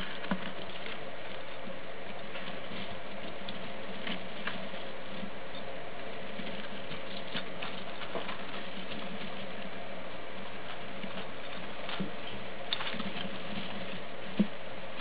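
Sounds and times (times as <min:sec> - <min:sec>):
small paws clicking and scratching: 0:00.0 - 0:15.0
steady background hiss: 0:00.0 - 0:15.0.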